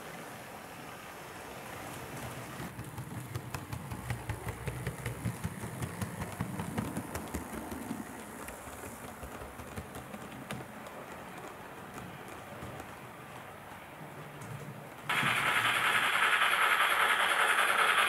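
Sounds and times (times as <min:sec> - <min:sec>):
model train rumble: 0:00.1 - 0:13.2, 0:15.1 - 0:18.0
wheels clicking on track: 0:01.5 - 0:18.0.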